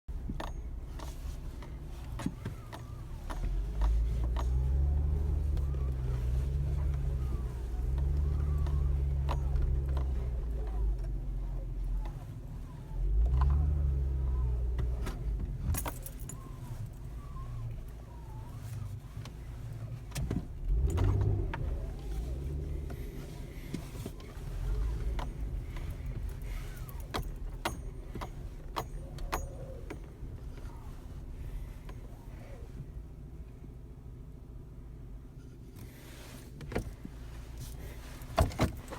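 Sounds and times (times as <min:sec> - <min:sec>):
car engine low hum: 0:00.0 - 0:38.9
steering squeaking and creaking: 0:00.2 - 0:33.0, 0:35.3 - 0:38.9.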